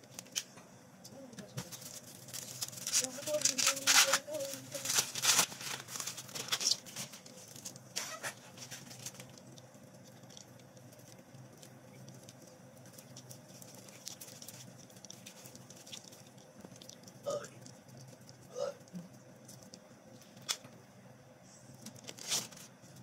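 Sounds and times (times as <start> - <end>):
corn husk rustling and tearing: 1.6 - 20.6, 21.8 - 23.0.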